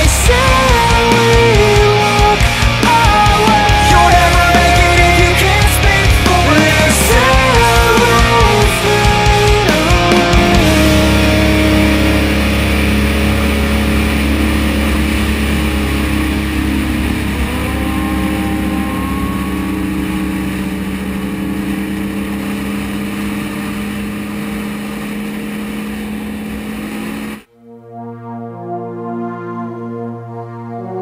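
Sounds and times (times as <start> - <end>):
motorbike engine cruising: 0.0 - 27.5
faint rising whine: 0.0 - 31.0.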